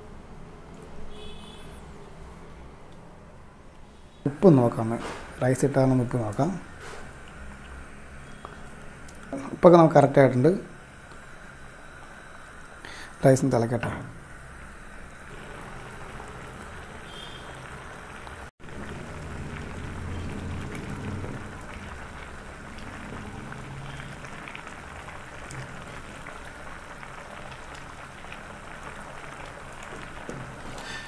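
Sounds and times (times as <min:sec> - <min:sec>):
water boiling in a pot: 0:01.1 - 0:01.6, 0:04.3 - 0:31.0.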